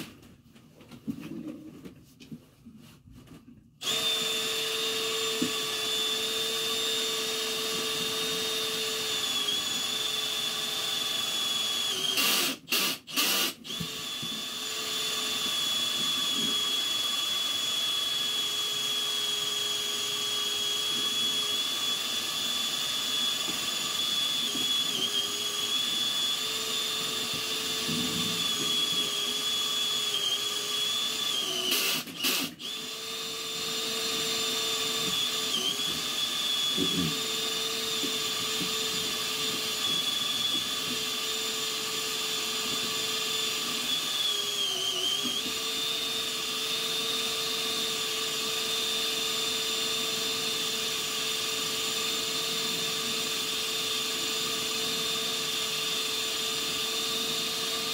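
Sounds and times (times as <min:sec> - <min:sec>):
drain-cleaning machine whining: 0:03.8 - 0:57.9.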